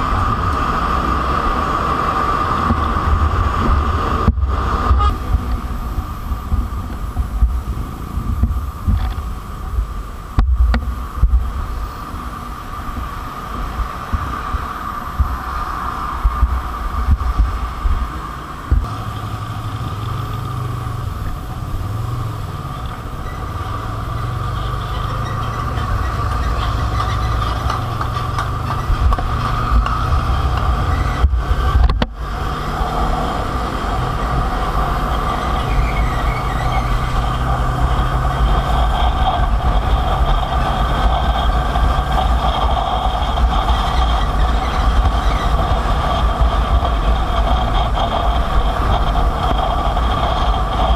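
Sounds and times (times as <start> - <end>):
motorcycle engine droning: 0.0 - 50.9
road noise: 0.0 - 50.9.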